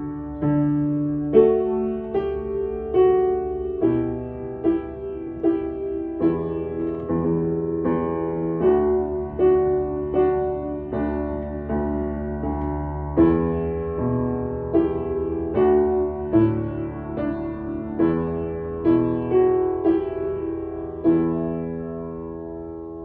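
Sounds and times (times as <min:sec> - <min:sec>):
slow piano melody: 0:00.0 - 0:23.0.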